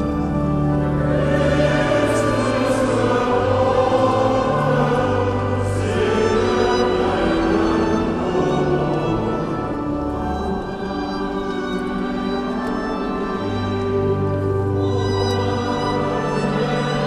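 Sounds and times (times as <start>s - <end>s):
choral music with orchestra: 0.0s - 17.0s.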